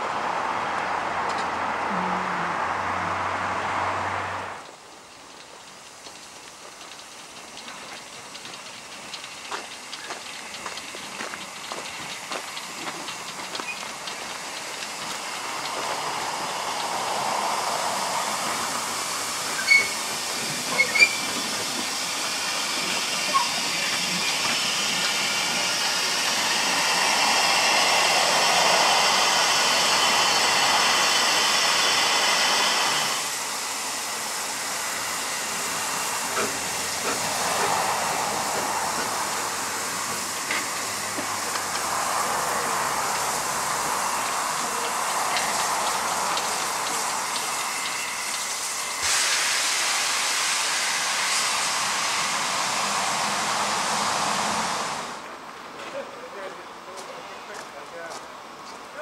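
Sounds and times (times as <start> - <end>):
steam hissing from safety valves: 4.7 - 55.2.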